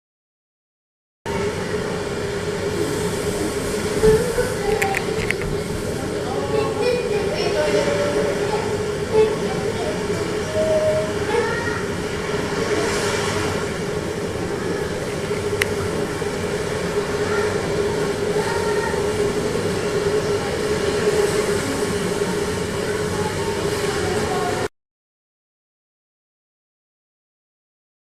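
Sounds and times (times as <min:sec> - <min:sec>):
steady hum: 0:01.3 - 0:24.7.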